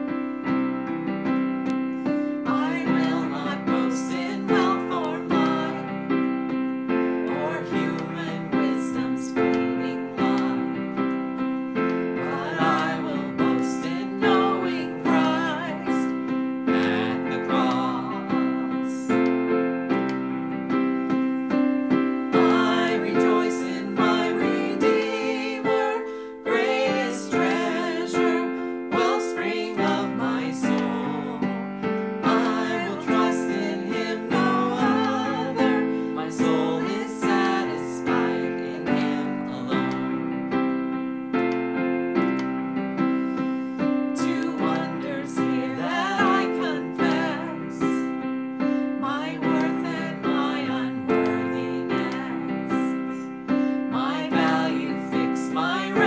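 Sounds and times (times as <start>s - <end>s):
piano: 0.0s - 56.0s
man and woman singing a hymn: 2.3s - 6.3s, 7.0s - 19.3s, 22.3s - 40.3s, 43.3s - 56.0s.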